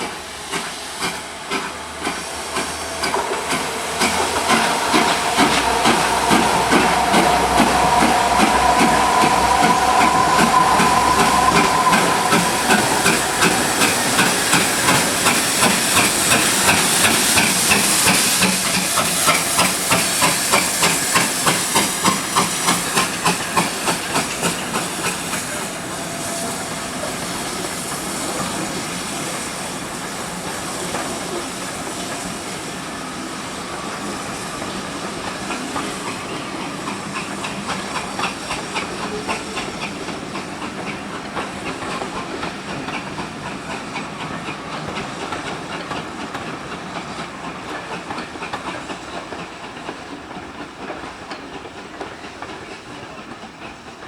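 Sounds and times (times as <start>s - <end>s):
steam hiss: 0.0s - 54.0s
steam locomotive exhaust chuffing: 0.0s - 54.0s.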